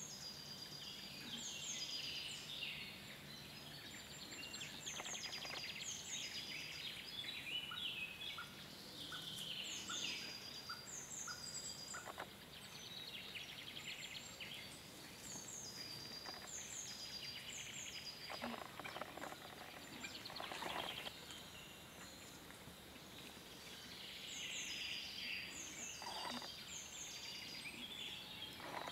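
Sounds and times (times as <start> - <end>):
short evenly spaced bird notes: 0.0 - 28.9
songbirds singing: 0.0 - 28.9.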